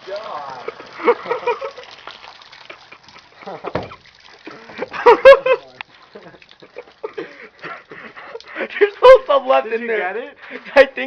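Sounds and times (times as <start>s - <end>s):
water splashing onto floor: 0.0s - 11.0s.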